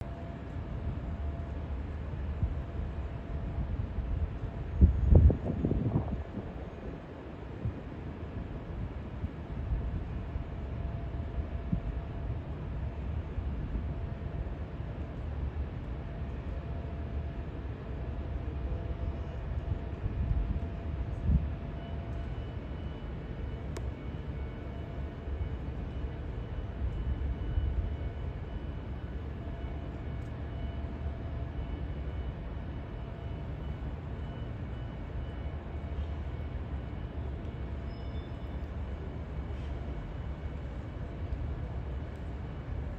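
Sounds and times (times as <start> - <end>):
low city rumble: 0.0 - 42.9.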